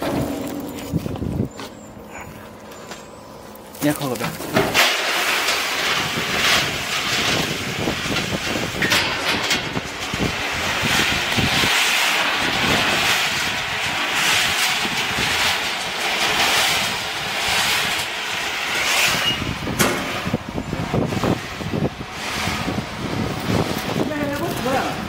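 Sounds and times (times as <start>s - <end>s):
peanut roasting machine running: 0.0s - 25.0s
peanuts churning with rustling hiss: 0.0s - 25.0s.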